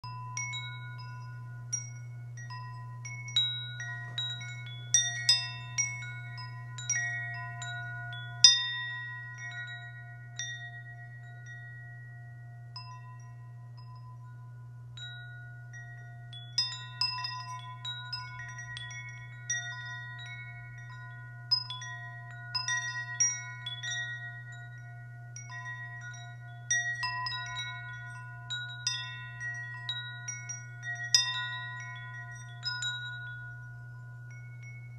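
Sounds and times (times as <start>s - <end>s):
steady low hum: 0.0s - 34.9s
wind chimes ringing: 0.0s - 34.9s.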